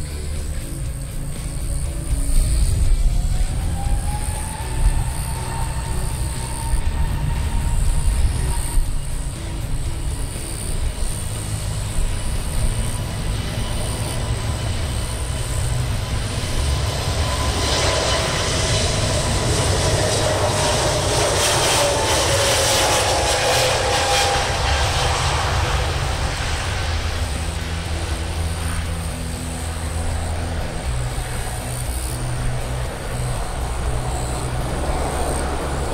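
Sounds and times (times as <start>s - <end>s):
airliner jet engines at takeoff: 0.0s - 35.9s.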